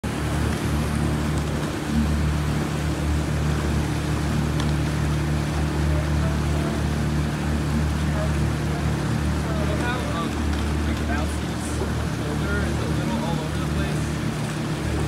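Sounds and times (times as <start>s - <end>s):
hiss of water and wind: 0.0s - 15.0s
outboard motor running: 0.0s - 15.0s.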